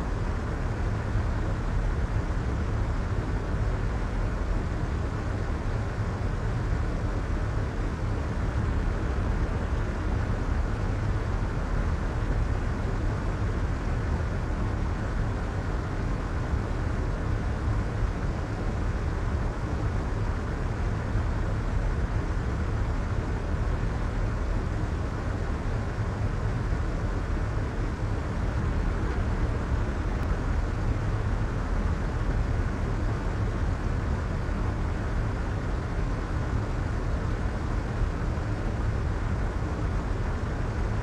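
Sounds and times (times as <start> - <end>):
soft rumbling white noise: 0.0 - 41.0.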